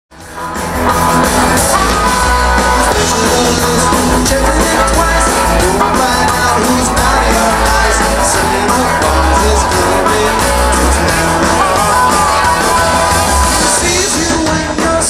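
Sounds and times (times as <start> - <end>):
live rock band music: 0.1 - 15.0.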